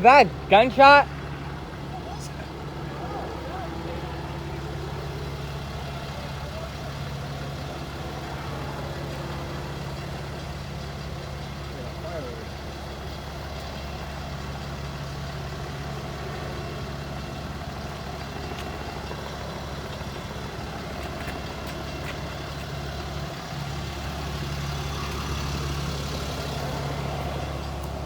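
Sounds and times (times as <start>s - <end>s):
heavy engine idling: 0.0s - 28.0s.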